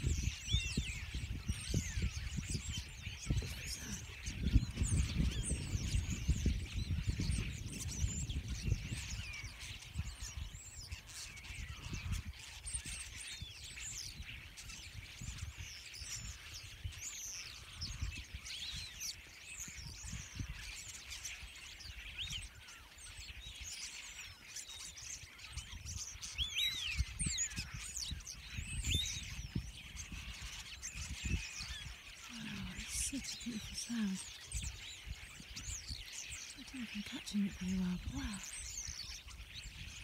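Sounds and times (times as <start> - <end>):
starlings chattering: 0.0 - 40.0.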